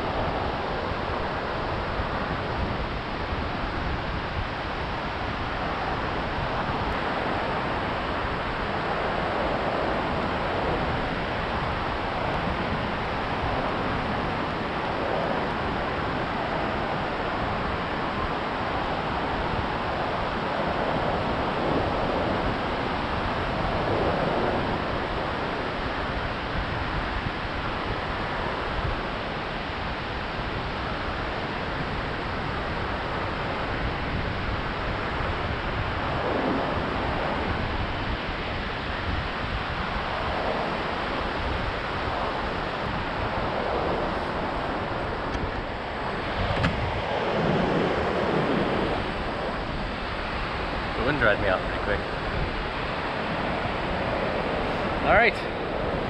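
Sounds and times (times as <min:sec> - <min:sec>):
surf breaking on beach: 0:00.0 - 0:56.0
wind rumbling on microphone: 0:00.0 - 0:56.0.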